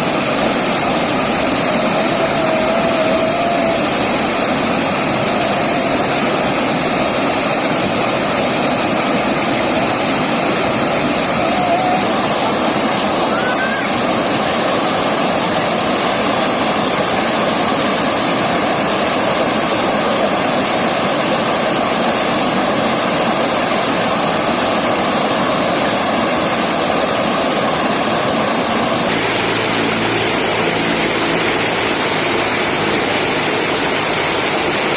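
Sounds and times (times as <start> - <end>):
river water rushing over rocks: 0.0 - 34.9.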